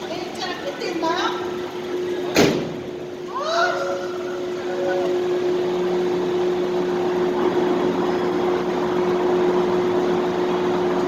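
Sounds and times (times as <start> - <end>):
machinery and engine hum: 0.0 - 11.0.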